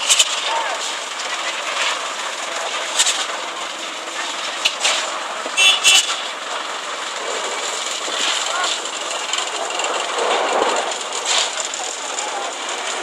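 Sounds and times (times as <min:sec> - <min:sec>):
construction machinery noise: 0:00.0 - 0:13.0.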